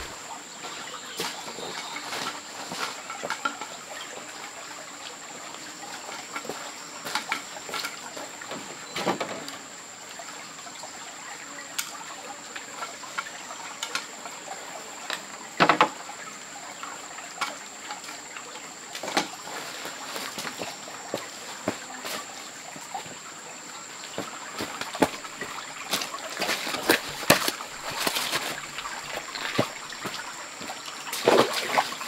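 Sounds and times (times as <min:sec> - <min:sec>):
trickling water: 0:00.0 - 0:32.0.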